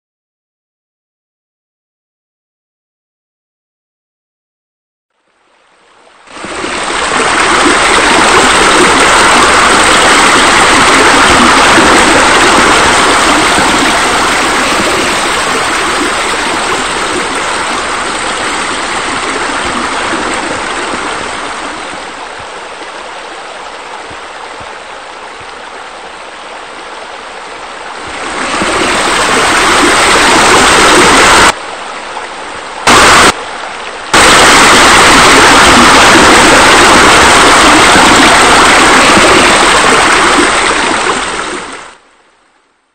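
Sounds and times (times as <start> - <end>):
running water rushing: 5.7 - 42.5.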